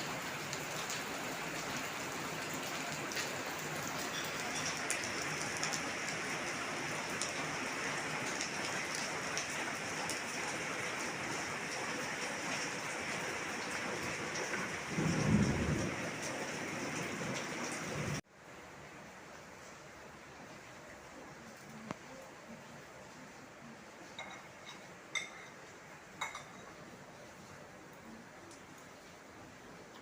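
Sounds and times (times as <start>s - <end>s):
heavy rain falling: 0.0s - 24.7s.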